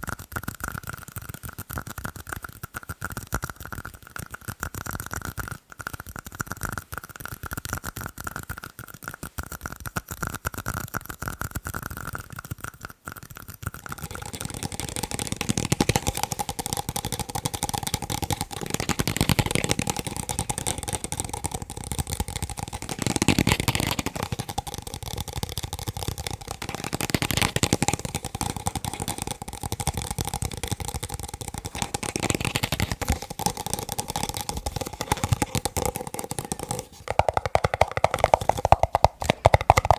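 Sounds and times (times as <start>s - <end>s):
fast tapping on plastic cups: 0.0s - 39.9s.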